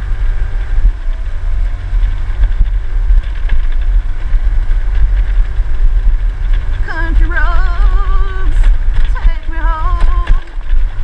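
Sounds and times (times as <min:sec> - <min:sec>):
motor scooter engine rumble: 0:00.0 - 0:11.0
small rattles: 0:00.0 - 0:11.0.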